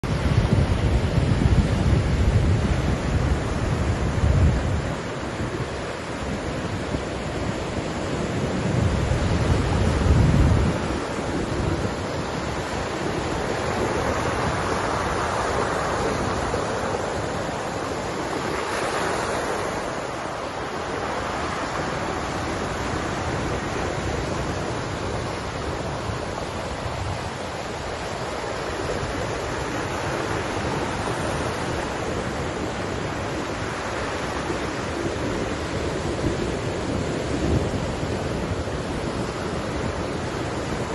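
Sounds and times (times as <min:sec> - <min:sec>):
waves breaking on shore: 0:00.0 - 0:40.9
wind rumbling on microphone: 0:00.0 - 0:40.9.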